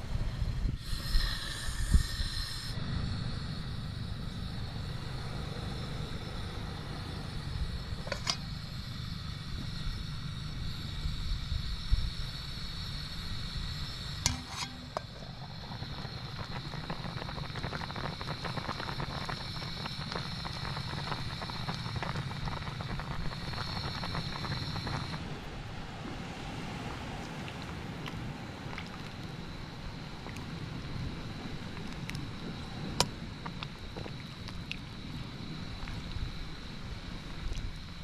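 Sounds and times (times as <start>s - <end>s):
faint sizzle: 0.0s - 38.0s
pot cooking with low rumble: 0.0s - 38.0s.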